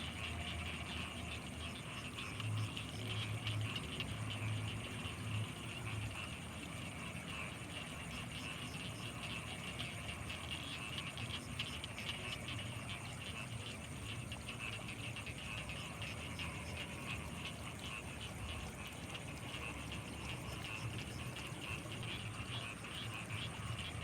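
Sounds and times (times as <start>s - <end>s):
frogs calling: 0.0s - 24.0s.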